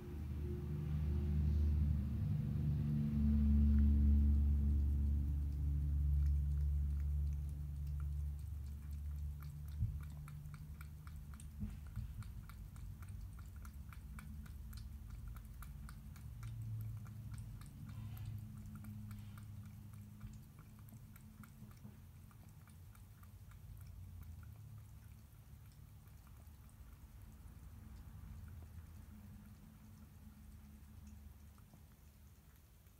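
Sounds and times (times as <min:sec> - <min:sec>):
cat chewing wet food: 0:00.0 - 0:32.9
low background hum: 0:00.0 - 0:32.9.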